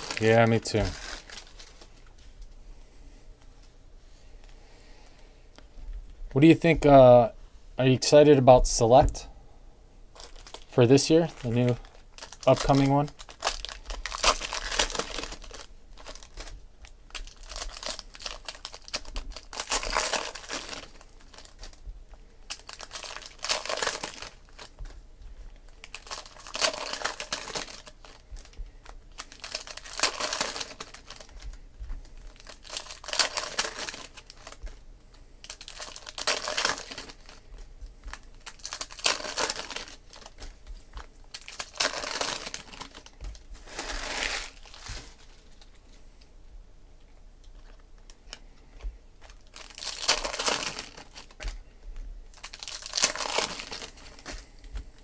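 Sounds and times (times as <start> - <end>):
foil wrappers crinkling and tearing: 0.0 - 2.1, 10.2 - 25.0, 25.6 - 45.9, 47.5 - 55.0.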